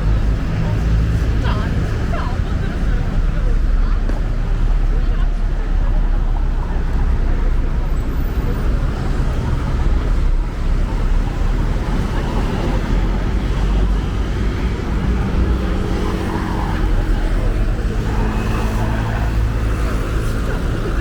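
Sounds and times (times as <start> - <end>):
road traffic rumble: 0.0 - 21.0
vehicle engine hum: 0.0 - 21.0.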